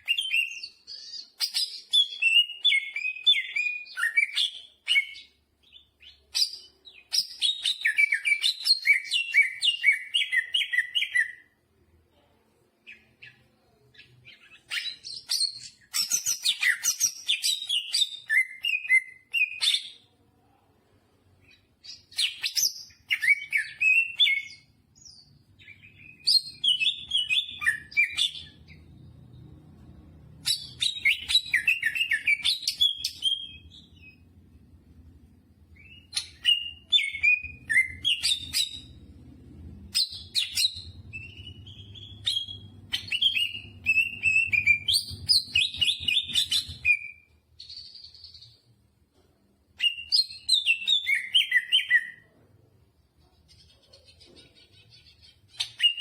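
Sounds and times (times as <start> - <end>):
bird singing rapid warbling phrases: 0.0 - 11.5, 12.8 - 20.1, 21.4 - 34.4, 35.6 - 48.7, 49.8 - 52.3, 53.4 - 56.0.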